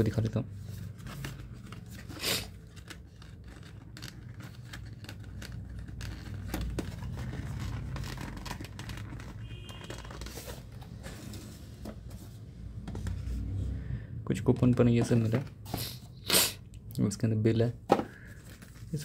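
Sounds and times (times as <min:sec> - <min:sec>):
cardboard rustling and scraping: 0:00.1 - 0:13.6, 0:14.6 - 0:16.1, 0:17.9 - 0:19.0.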